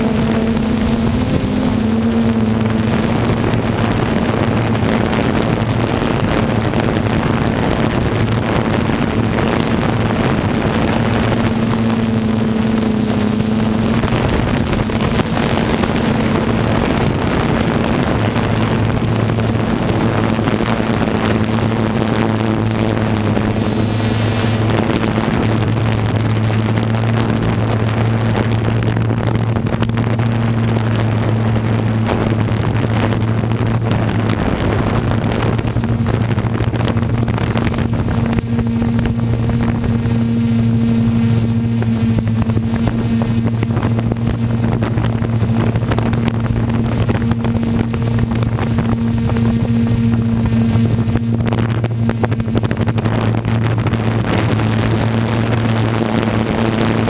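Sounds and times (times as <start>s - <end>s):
truck engine droning under load: 0.0s - 57.0s
wind buffeting microphone: 0.0s - 57.0s.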